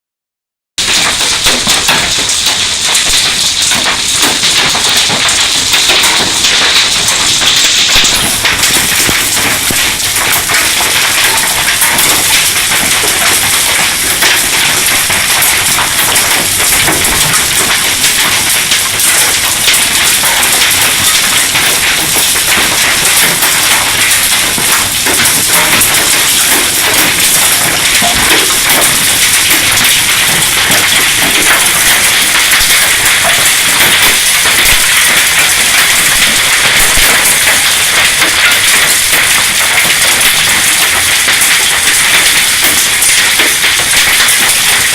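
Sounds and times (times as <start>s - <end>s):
hail and rain pelting surfaces: 0.8s - 44.9s.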